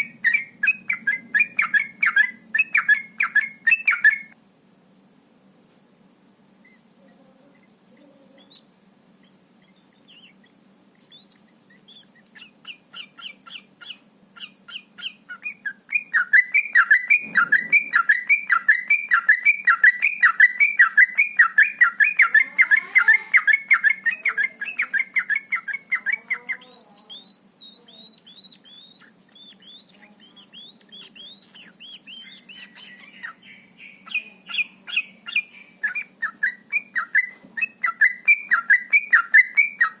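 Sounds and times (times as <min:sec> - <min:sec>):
bird chirping song: 0:00.0 - 0:04.4, 0:06.6 - 0:40.0.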